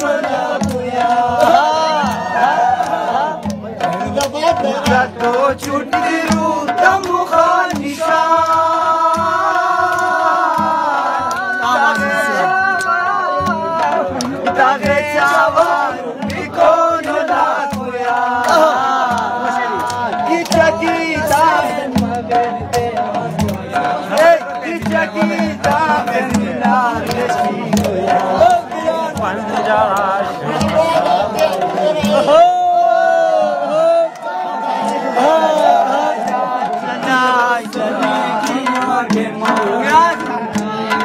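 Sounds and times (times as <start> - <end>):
shawm melody: 0.0 - 41.0
steady drum beat: 0.0 - 41.0.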